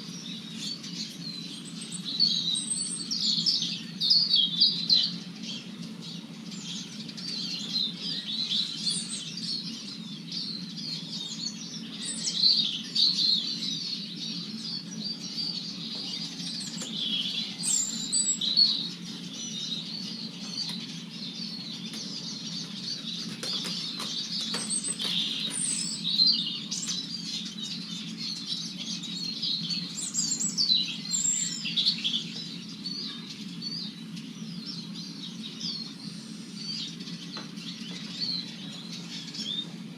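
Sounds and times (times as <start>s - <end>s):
birds twittering and chattering: 0.0s - 39.9s.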